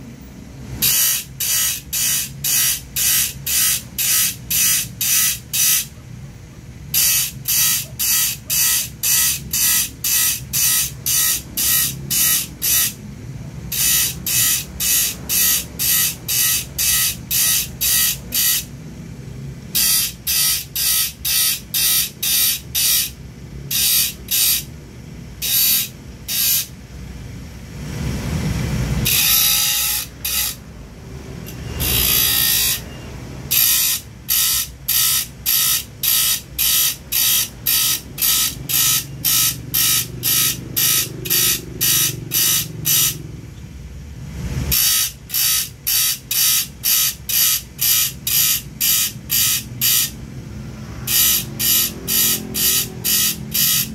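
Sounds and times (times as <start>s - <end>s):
grinder motor hum: 0.6s - 6.0s, 6.8s - 26.8s, 27.8s - 43.4s, 44.3s - 53.9s
grinding wheel rasping on metal: 0.7s - 6.0s, 6.8s - 13.0s, 13.6s - 18.8s, 19.7s - 24.8s, 25.4s - 26.7s, 29.0s - 30.7s, 31.4s - 43.2s, 44.6s - 53.9s.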